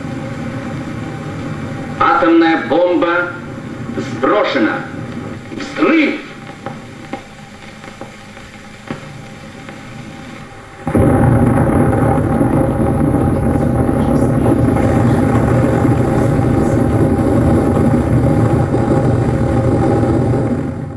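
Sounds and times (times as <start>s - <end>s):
loud deep rumble: 0.0s - 7.1s, 10.2s - 20.9s.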